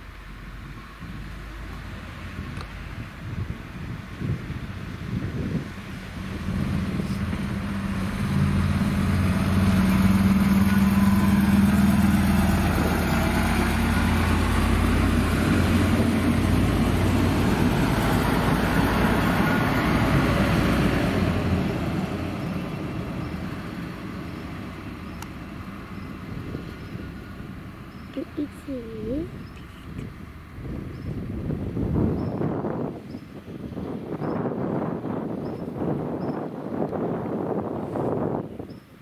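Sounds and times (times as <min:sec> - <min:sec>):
diesel train passing: 0:00.0 - 0:39.0.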